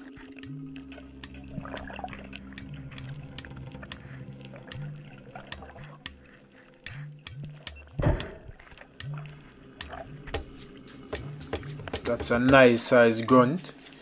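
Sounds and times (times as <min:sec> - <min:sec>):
underwater water sloshing: 0:00.0 - 0:12.9
quiet background music: 0:00.0 - 0:14.0.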